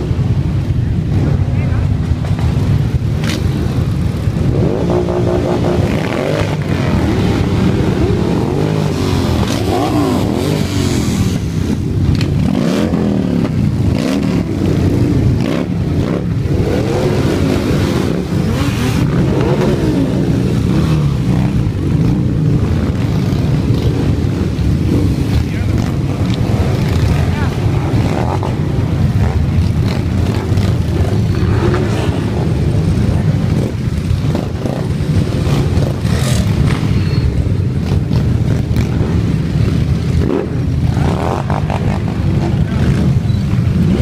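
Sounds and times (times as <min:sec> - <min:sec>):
motorcycle engines revving: 0:00.0 - 0:44.0.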